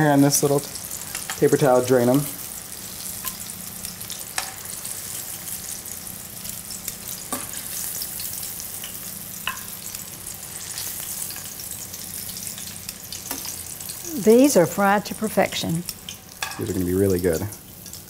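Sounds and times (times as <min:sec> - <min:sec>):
shrimp frying in oil: 0:00.0 - 0:18.0.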